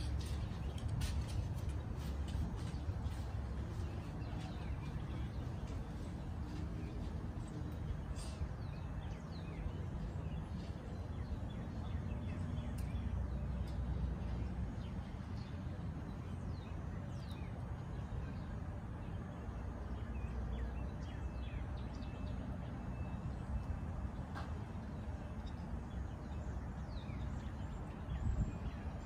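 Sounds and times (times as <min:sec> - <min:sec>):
birds chirping: 0:00.0 - 0:29.0
low outdoor rumble: 0:00.0 - 0:29.0.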